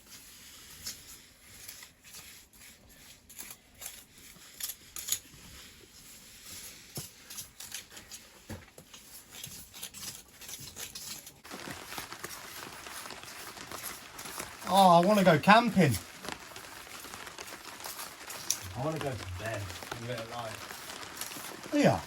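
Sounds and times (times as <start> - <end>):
hand tools scraping mortar on stone: 0.0 - 22.0.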